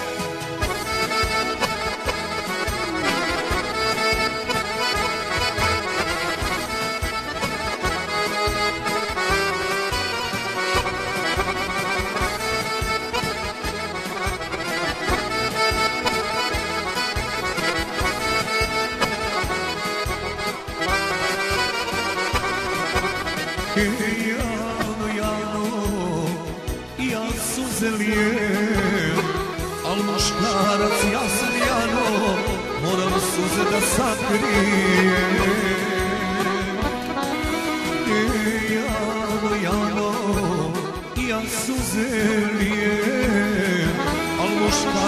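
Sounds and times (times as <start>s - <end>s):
accordion melody: 0.0s - 45.0s
steady rhythmic beat: 0.0s - 45.0s.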